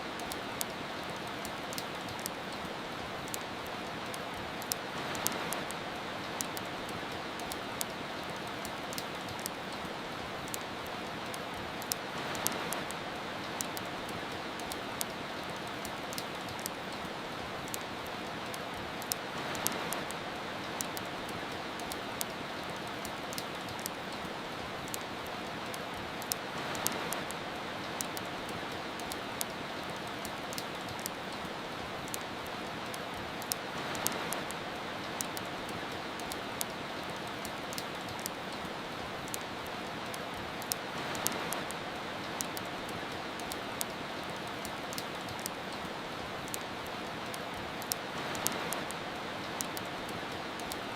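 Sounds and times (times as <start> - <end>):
steady rain: 0.0 - 50.9
wood fire crackling: 0.1 - 50.9.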